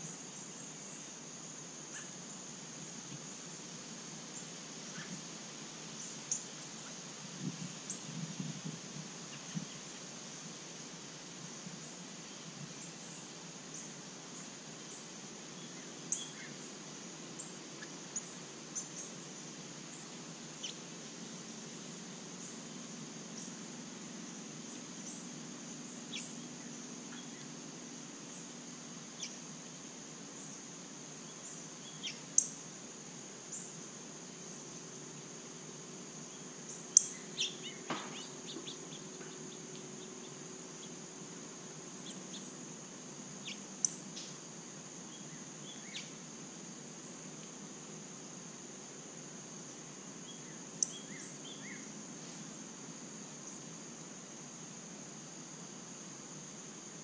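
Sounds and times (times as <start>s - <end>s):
high-pitched insect drone: 9.2s - 57.0s.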